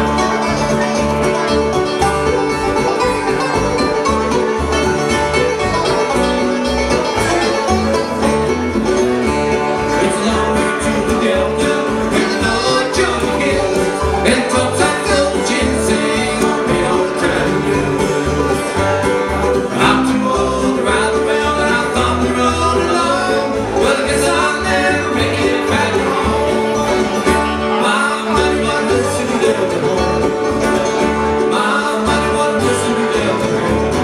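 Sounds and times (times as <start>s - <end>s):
acoustic guitar: 0.0s - 34.0s
banjo: 0.0s - 34.0s
mandolin: 0.0s - 34.0s
upright bass: 0.0s - 34.0s.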